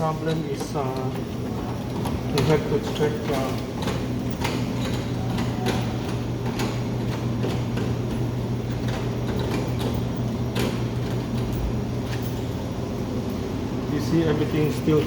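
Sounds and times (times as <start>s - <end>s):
vending machine humming: 0.0s - 15.0s.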